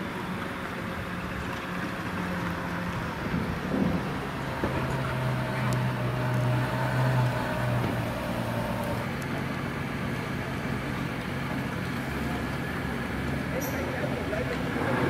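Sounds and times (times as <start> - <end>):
car engine low hum: 0.0 - 15.0.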